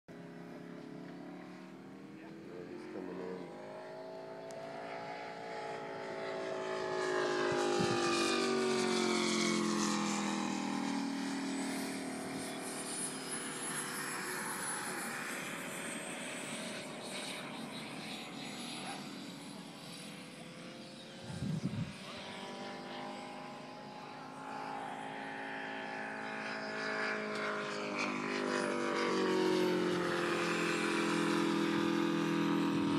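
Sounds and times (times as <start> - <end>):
model airplane engine passing: 0.1 - 32.9.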